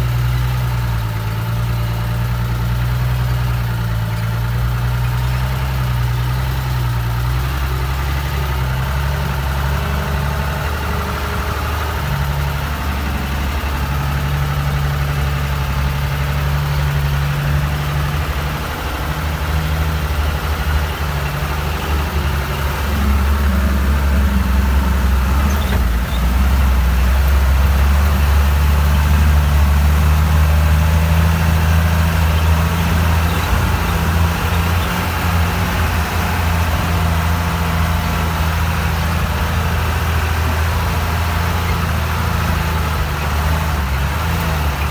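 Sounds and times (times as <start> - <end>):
truck diesel engine running: 0.0 - 44.9.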